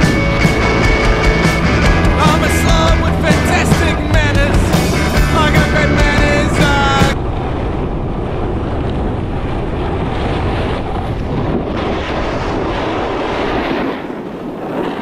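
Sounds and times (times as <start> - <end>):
snowboard sliding on snow: 0.0 - 15.0
wind rushing over microphone: 0.0 - 15.0.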